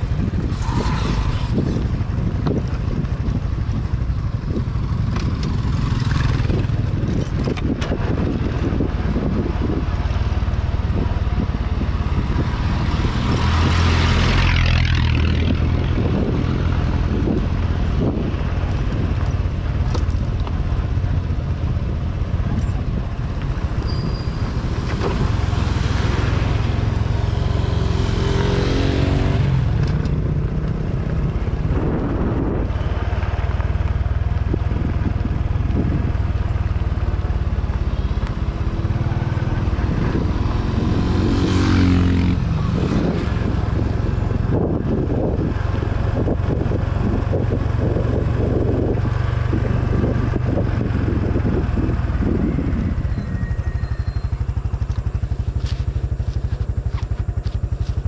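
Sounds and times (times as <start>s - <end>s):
motorcycle engine running: 0.0s - 58.0s
tyres on gravel road: 0.0s - 58.0s
wind on microphone: 0.0s - 58.0s.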